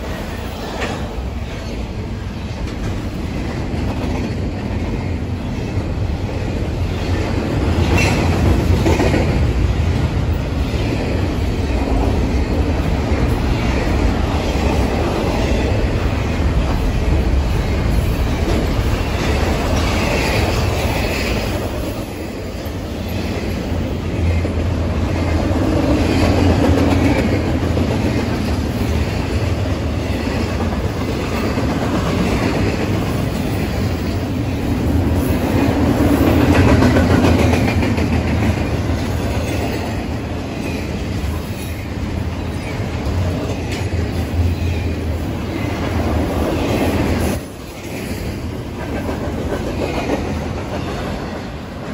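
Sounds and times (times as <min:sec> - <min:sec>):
freight train wheels rumbling on rail: 0:00.0 - 0:51.9.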